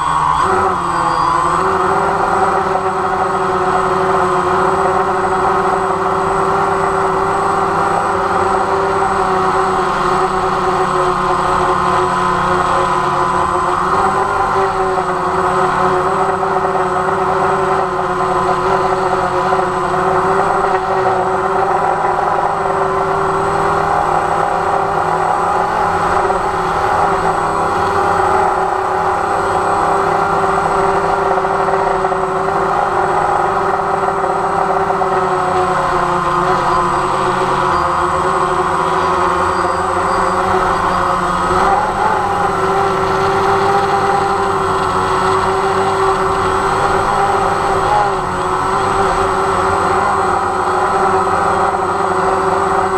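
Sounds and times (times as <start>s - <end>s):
drone propellers whining: 0.0s - 52.9s.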